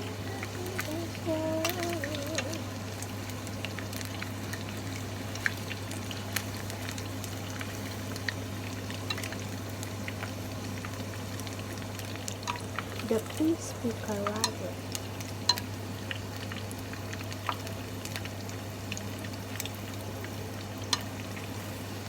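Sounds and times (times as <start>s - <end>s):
chicken frying in hot oil: 0.0s - 22.0s.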